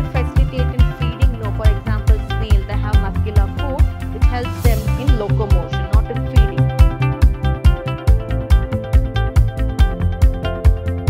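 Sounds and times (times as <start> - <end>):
fast beat music: 0.0 - 11.0.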